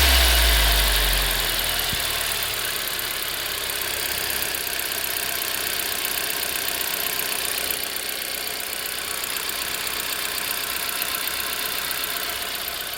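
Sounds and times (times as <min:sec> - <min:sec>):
car engine running: 0:00.0 - 0:12.9
fuel injector ticking: 0:00.0 - 0:12.9.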